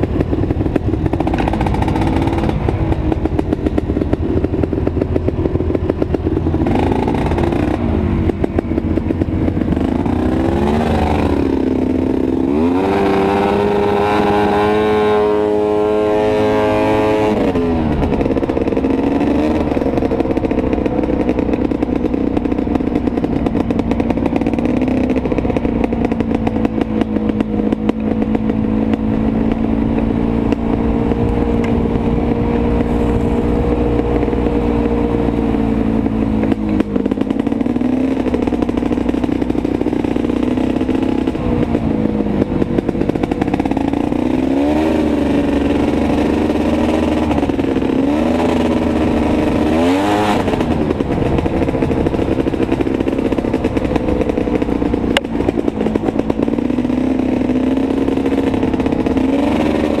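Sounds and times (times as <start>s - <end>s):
atv engine revving: 0.0s - 60.0s.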